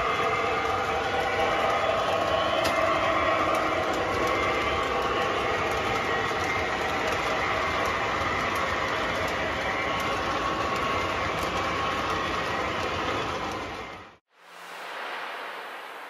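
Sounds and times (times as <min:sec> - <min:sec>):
model train cars rolling on track: 0:00.0 - 0:14.2.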